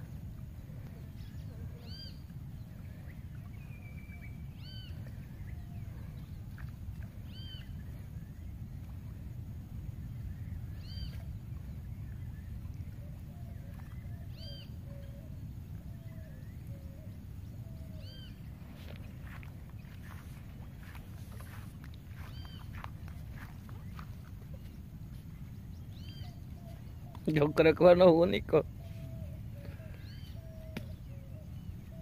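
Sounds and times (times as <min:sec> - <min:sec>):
steady low rumble: 0:00.0 - 0:27.2.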